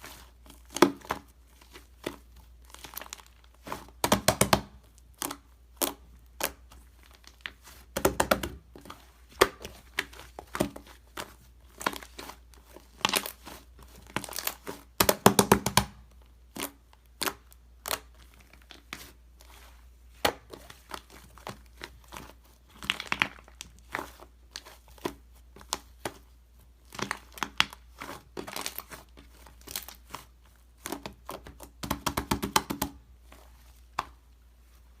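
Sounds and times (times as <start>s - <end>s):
slime crinkling and crackling: 0.0s - 35.0s.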